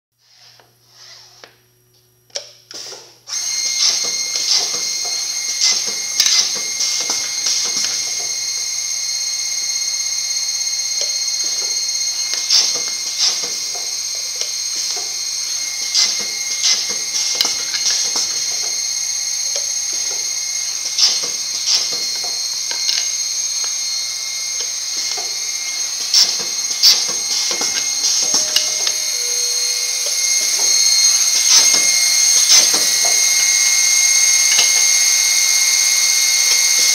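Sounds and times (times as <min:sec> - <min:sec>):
machine high-pitched whine: 0:03.3 - 0:36.9.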